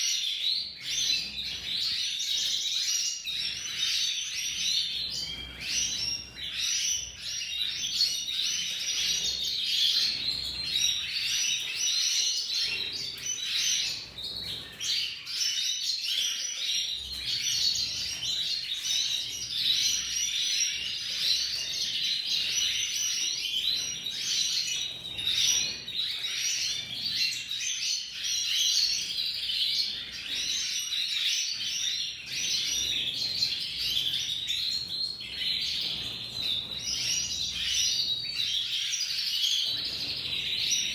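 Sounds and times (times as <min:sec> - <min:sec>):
canary singing: 0:00.1 - 0:40.9.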